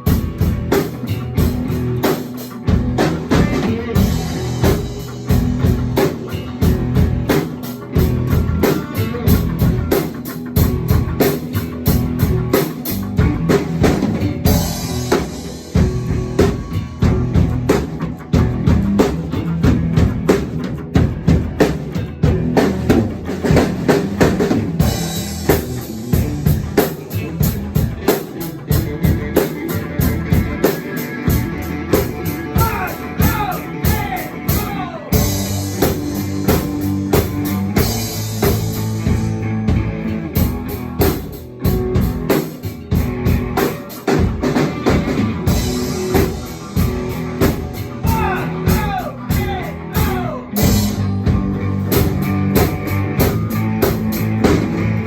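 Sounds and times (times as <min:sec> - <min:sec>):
drum kit beat: 0:00.0 - 0:55.0
rock band playing: 0:00.0 - 0:55.0.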